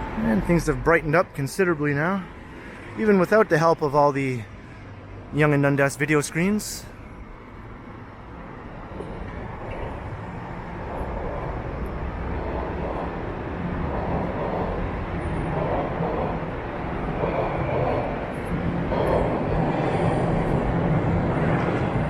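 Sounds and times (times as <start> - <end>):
subway train rumbling: 0.0 - 22.0.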